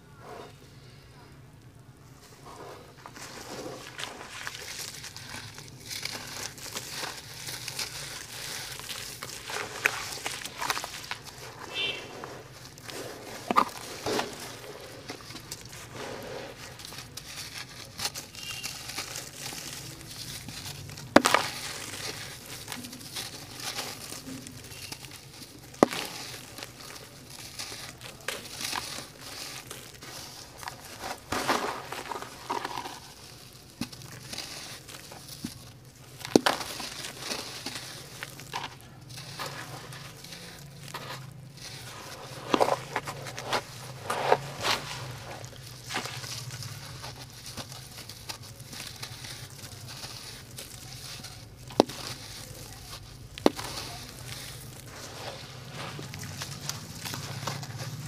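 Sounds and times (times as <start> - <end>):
hands crumbling wet cement lumps: 2.6 - 58.0.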